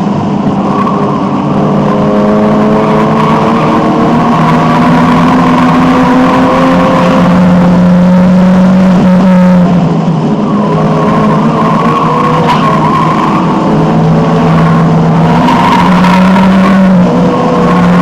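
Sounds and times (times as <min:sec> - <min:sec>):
car engine pulling hard: 0:00.0 - 0:18.0.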